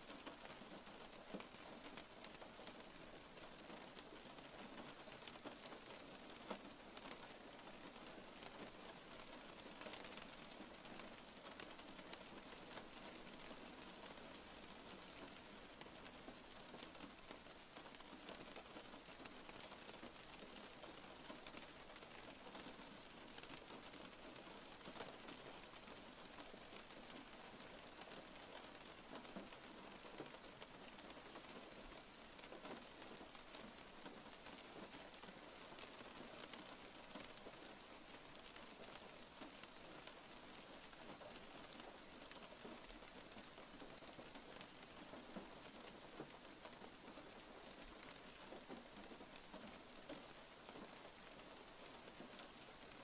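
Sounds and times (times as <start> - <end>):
faint steady rain: 0.0 - 53.0.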